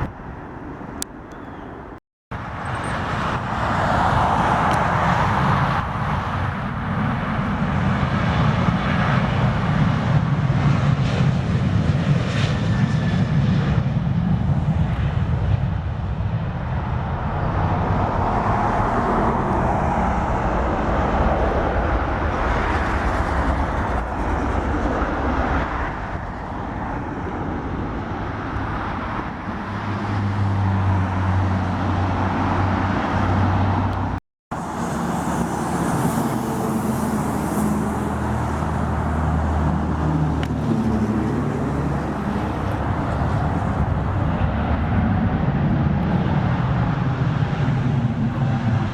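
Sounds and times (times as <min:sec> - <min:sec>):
jet engine rush: 0:00.0 - 0:48.9.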